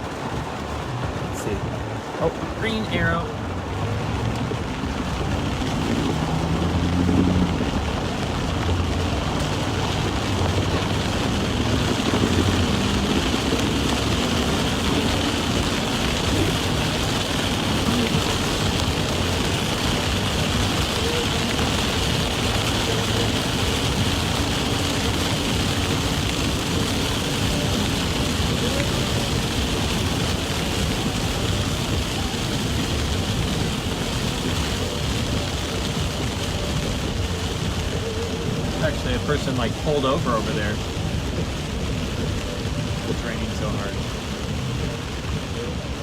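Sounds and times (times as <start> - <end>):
car engine hum: 0.0 - 46.0
heavy rain on car roof: 0.0 - 46.0
tyres hissing on wet road: 0.0 - 46.0.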